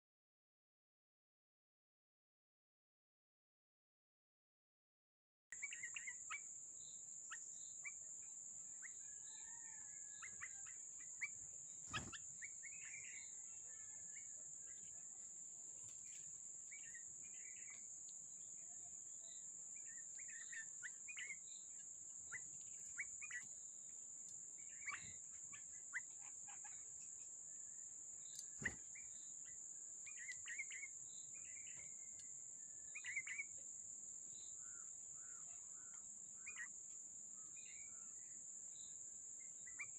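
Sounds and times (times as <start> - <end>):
small birds chirping: 5.6 - 39.9.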